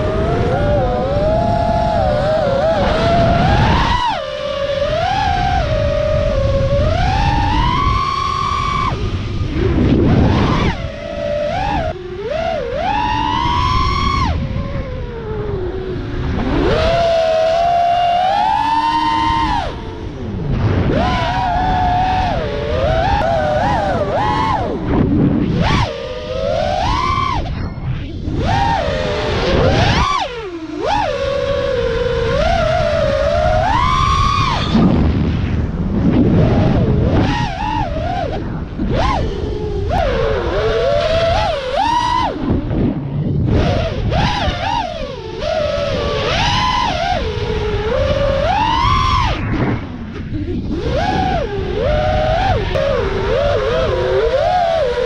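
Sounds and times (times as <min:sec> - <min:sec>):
drone motors whining: 0:00.0 - 0:55.0
rushing wind and prop-wash: 0:00.0 - 0:55.0.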